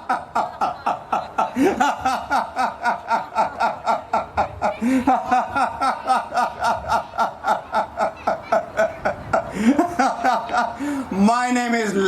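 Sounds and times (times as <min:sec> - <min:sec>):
person laughing rhythmically: 0:00.0 - 0:10.8.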